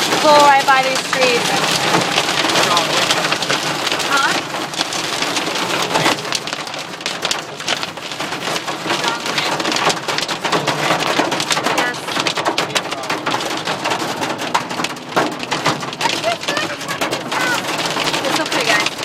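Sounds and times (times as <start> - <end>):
hail rattling on car roof: 0.0 - 19.0.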